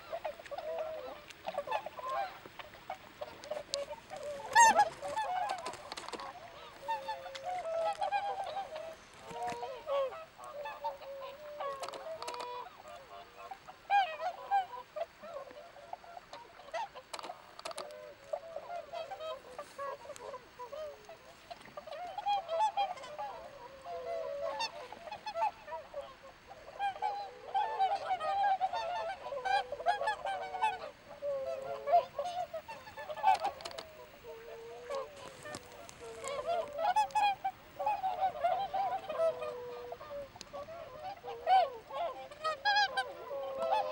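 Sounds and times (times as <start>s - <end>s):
swans calling: 0.0s - 43.9s.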